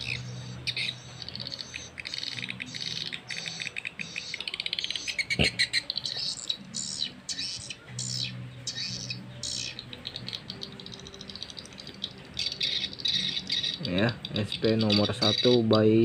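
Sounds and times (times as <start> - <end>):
recorded bird chirps through speakers: 0.0 - 16.0.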